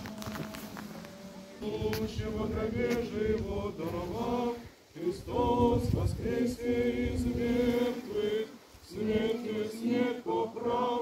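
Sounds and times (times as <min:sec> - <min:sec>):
choir chanting: 0:01.3 - 0:11.0.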